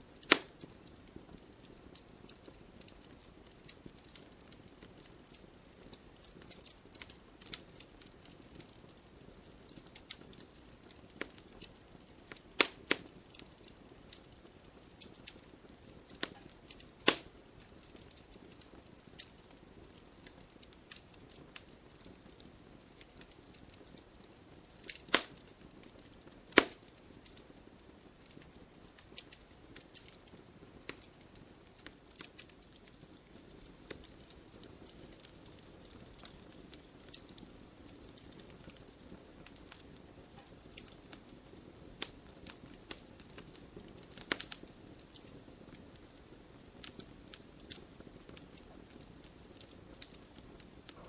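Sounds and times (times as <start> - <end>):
wood fire crackling and popping: 0.0 - 51.0.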